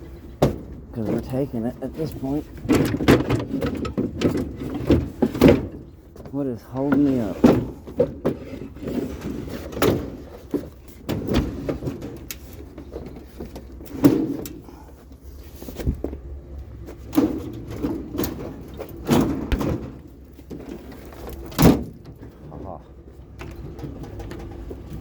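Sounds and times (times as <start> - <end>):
low steady rumble: 0.0 - 25.0
knocks and clunks: 0.3 - 25.0.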